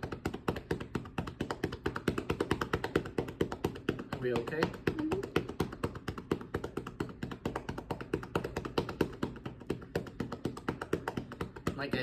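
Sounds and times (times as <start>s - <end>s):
cupped hands clapping on chest: 0.0s - 12.0s.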